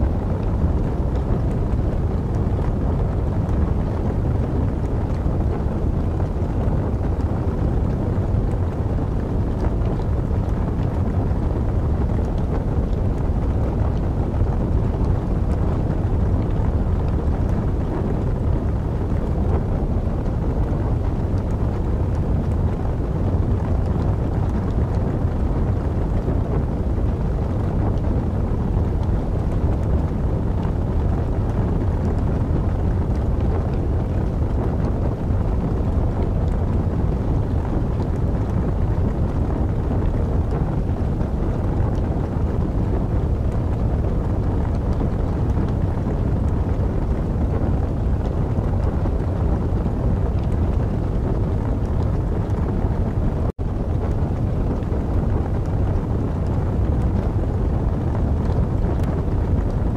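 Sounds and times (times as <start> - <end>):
low wind noise: 0.0 - 59.9
wood fire crackling: 0.1 - 59.9.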